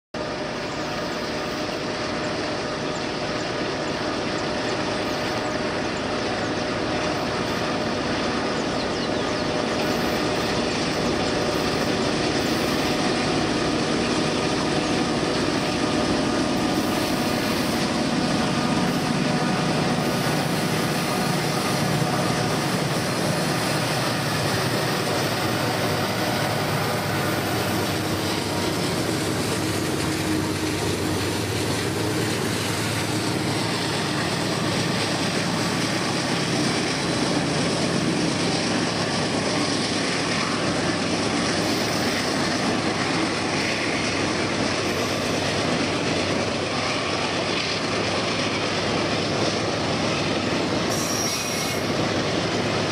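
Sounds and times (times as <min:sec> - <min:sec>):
freight locomotive engine drone: 0:00.1 - 0:52.9.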